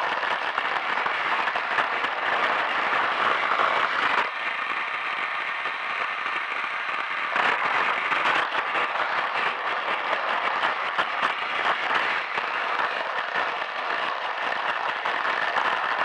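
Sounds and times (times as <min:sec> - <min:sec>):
toy train rattling on track: 0:00.0 - 0:16.0.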